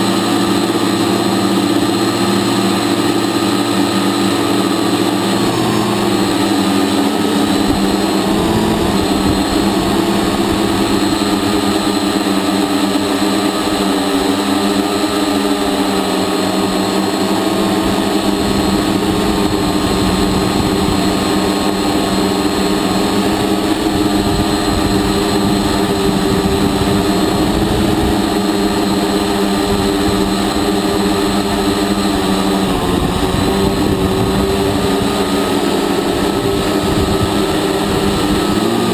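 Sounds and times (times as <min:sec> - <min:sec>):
drone propellers droning: 0:00.0 - 0:38.9.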